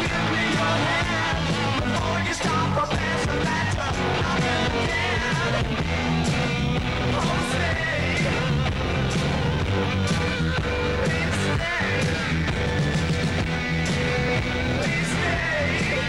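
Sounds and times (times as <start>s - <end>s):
rock song with singing: 0.0s - 16.0s
steady bass line: 0.0s - 16.0s.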